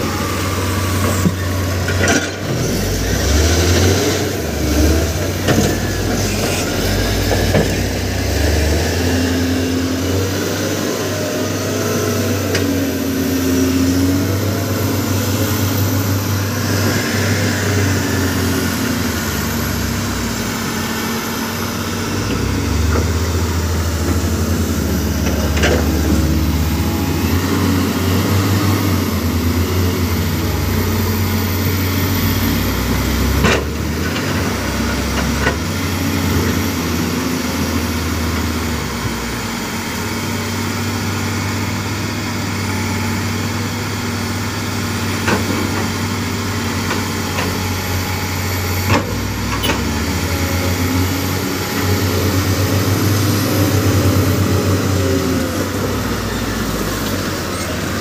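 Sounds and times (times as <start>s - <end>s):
diesel engines of heavy machinery: 0.0s - 58.0s.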